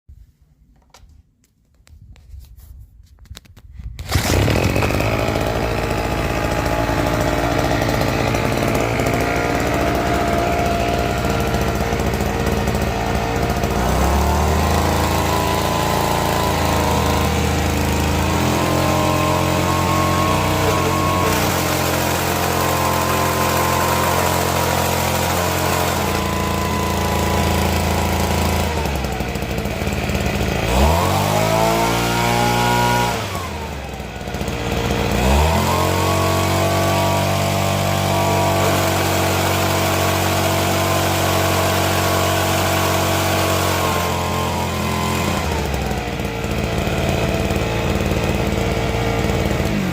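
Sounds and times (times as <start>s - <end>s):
small engine revving: 4.0s - 49.9s.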